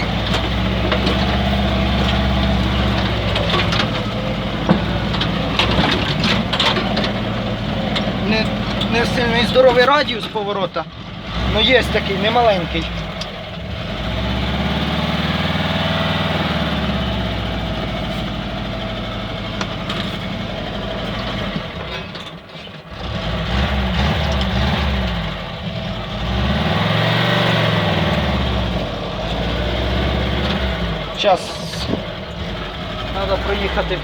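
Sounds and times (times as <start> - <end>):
car engine revving: 0.0 - 22.0, 22.8 - 34.0.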